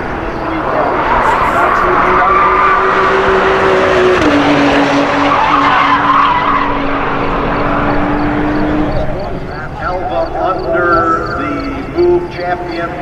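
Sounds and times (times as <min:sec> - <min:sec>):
car engine running hard: 0:00.0 - 0:13.0.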